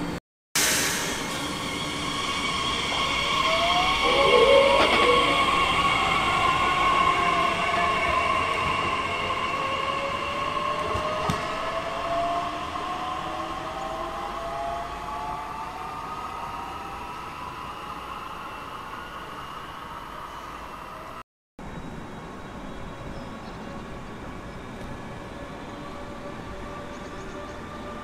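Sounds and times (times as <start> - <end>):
electric train whining past: 0.6 - 23.1, 23.7 - 28.0.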